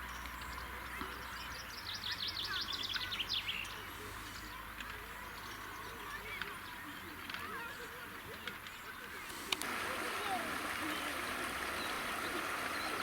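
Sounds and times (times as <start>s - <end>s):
outdoor background noise: 0.0s - 13.0s
songbird singing: 0.0s - 13.0s.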